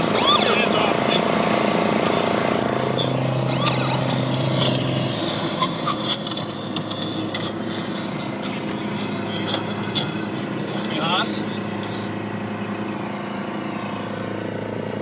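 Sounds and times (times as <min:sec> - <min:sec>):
lawn mower engine: 0:00.0 - 0:15.0
steady hum: 0:00.0 - 0:15.0.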